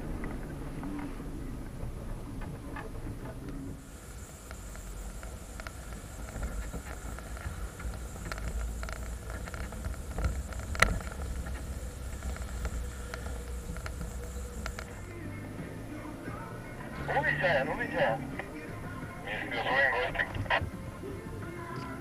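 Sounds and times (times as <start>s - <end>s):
off-road vehicle rumble: 0.0s - 22.0s.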